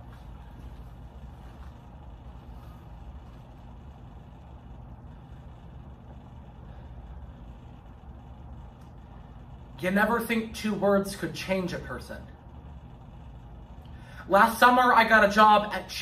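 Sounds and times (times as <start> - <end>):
room background rumble: 0.0 - 16.0.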